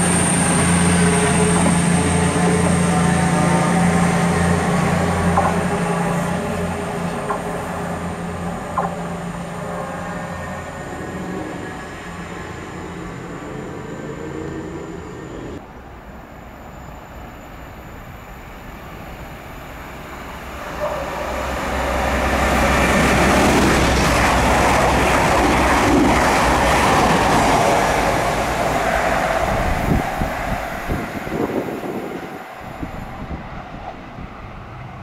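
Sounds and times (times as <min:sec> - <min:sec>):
train passing: 0:00.0 - 0:35.0.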